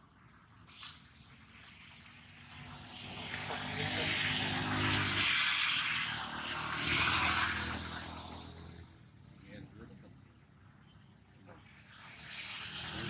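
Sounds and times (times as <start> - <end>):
aircraft engine drone overhead: 0.0 - 13.0.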